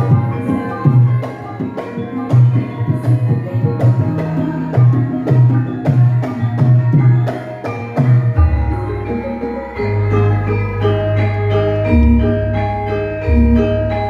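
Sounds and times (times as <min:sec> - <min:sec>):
bronze metallophone tones: 0:00.0 - 0:14.0.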